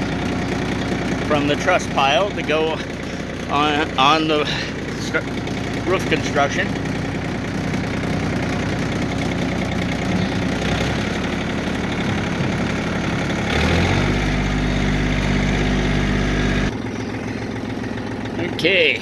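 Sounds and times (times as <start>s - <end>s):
machine engine running and revving: 0.0s - 19.0s.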